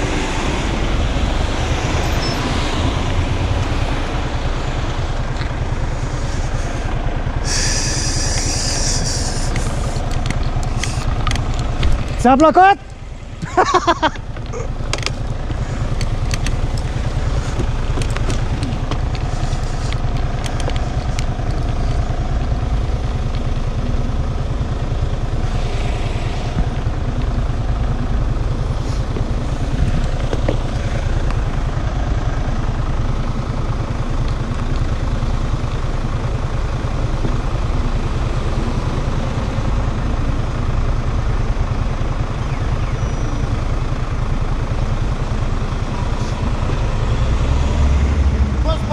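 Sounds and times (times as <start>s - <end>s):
vehicle running: 0.0s - 48.9s.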